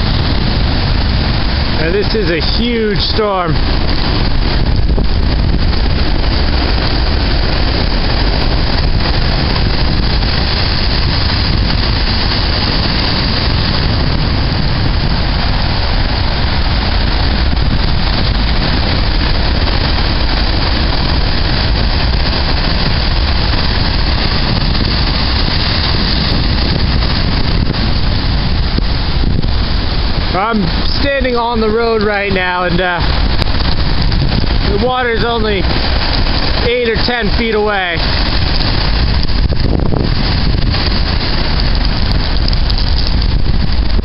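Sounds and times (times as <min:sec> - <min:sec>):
storm wind on microphone: 0:00.0 - 0:44.0
surf crashing: 0:00.0 - 0:44.0.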